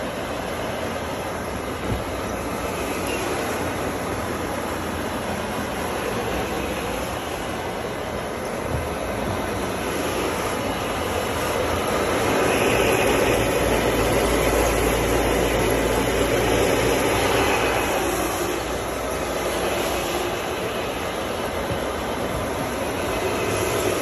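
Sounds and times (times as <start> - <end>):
rug-scrubbing machine running: 0.0 - 24.0.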